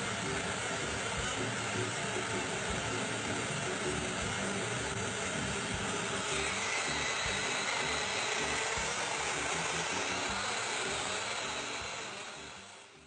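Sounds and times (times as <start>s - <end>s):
portable blender whirring: 0.0s - 13.0s.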